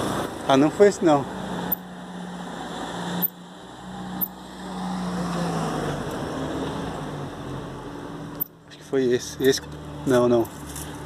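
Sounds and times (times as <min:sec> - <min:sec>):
car passing on street: 0:00.0 - 0:11.0.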